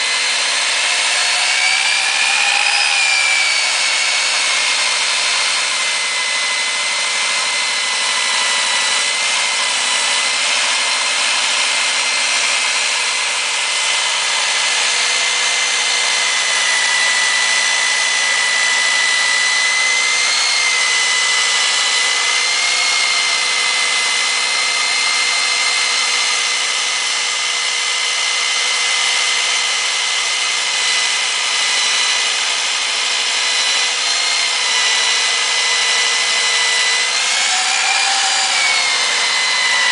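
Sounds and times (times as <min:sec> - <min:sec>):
core drill cutting concrete: 0:00.0 - 0:39.9.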